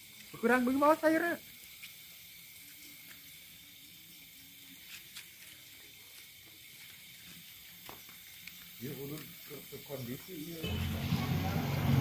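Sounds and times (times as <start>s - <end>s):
high-pitched outdoor night hiss: 0.0s - 12.0s.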